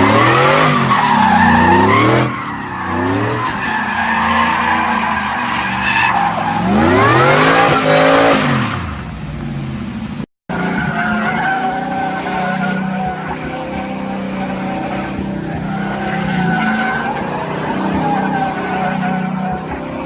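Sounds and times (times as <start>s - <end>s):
vehicle engines running: 3.9s - 20.0s.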